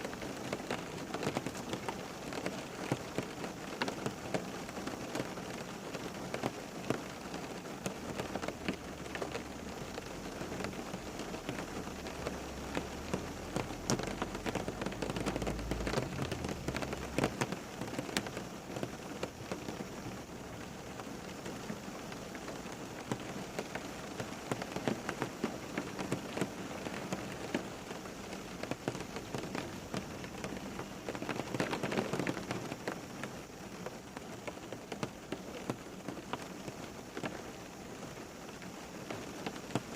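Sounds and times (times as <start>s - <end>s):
rain drops hitting a surface: 0.0s - 39.9s.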